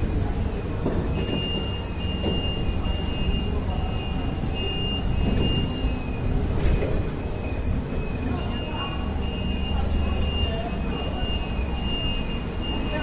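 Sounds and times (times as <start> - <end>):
forklift engine rumbling: 0.0 - 13.0.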